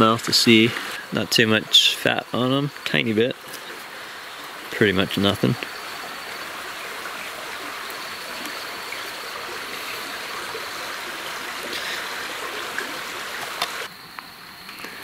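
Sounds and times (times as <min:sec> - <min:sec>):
stream rushing: 0:00.0 - 0:13.9.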